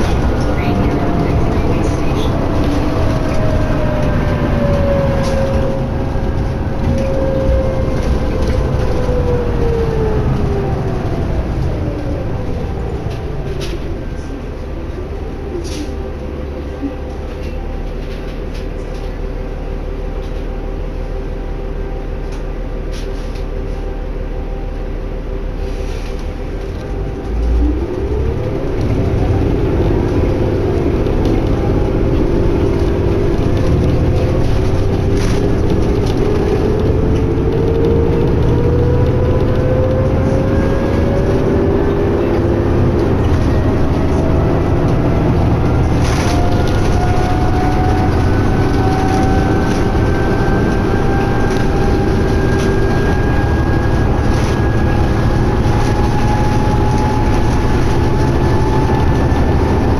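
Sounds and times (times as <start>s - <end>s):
bus engine and road rumble: 0.0s - 59.9s
rising drivetrain whine: 0.0s - 59.9s.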